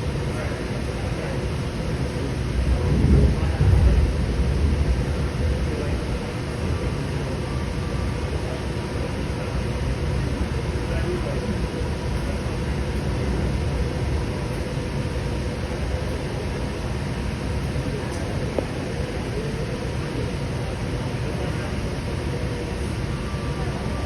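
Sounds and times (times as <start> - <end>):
light rail train rumble: 0.0 - 24.0.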